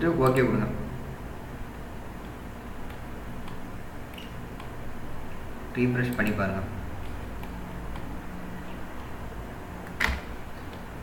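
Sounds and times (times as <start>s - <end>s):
room noise hum and hiss: 0.0s - 11.0s.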